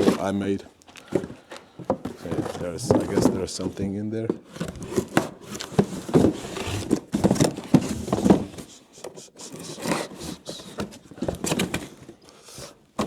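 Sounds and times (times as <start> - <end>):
hands rummaging through cardboard box: 0.0 - 13.0.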